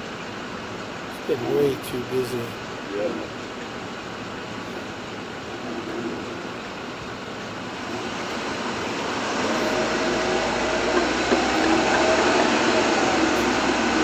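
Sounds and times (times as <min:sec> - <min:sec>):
road and engine noise in cab: 0:00.0 - 0:14.0.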